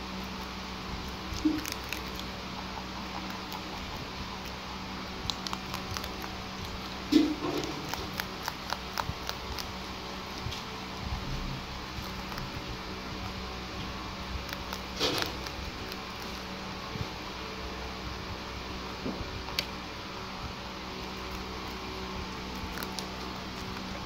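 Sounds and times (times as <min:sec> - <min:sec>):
rabbits chewing leafy stems: 0:00.0 - 0:24.0
steady low hum: 0:00.0 - 0:24.0.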